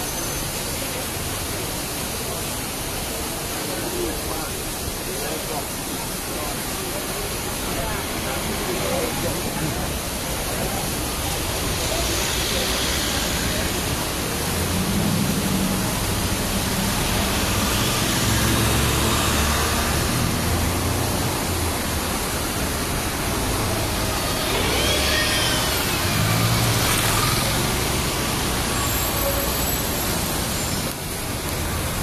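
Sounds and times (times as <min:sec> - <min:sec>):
traffic hiss: 0:00.0 - 0:32.0
vehicle engines rumbling: 0:00.0 - 0:32.0.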